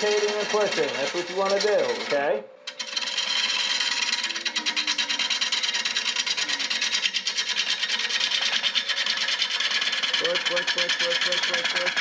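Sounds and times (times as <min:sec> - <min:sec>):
wood lathe tool chatter: 0:00.0 - 0:12.0.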